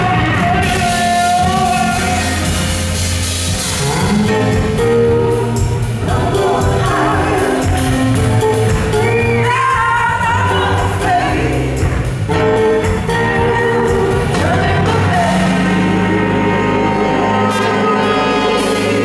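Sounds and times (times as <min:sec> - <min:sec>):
bass guitar: 0:00.0 - 0:19.0
drums: 0:00.0 - 0:19.0
voices singing: 0:03.6 - 0:19.0.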